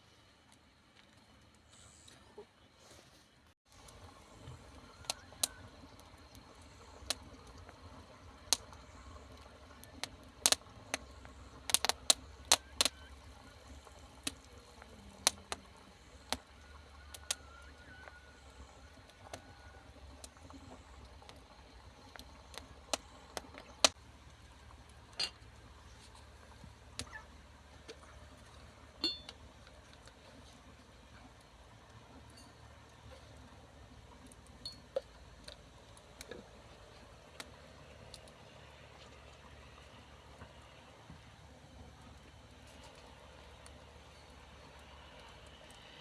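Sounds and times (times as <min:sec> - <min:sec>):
faint steady background noise: 0:00.0 - 0:46.0.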